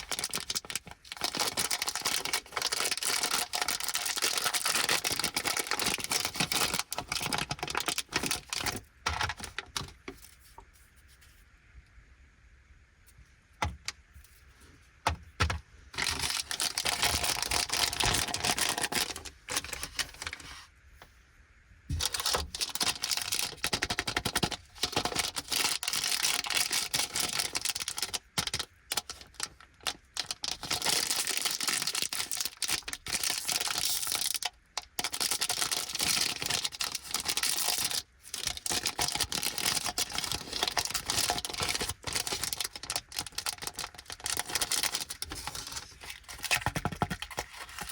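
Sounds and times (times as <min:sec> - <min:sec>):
packaging tearing: 0:00.0 - 0:09.8, 0:16.0 - 0:20.4, 0:22.0 - 0:47.9
plastic packaging crinkling: 0:00.0 - 0:10.6, 0:15.5 - 0:20.6, 0:21.9 - 0:47.9.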